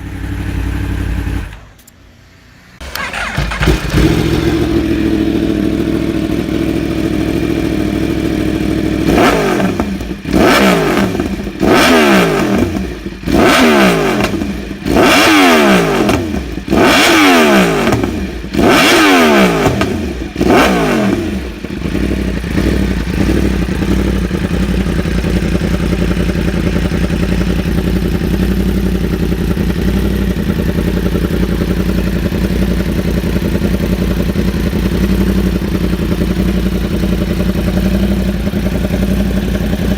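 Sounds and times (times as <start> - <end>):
motorcycle engine revving: 0.0 - 1.9, 2.8 - 39.9.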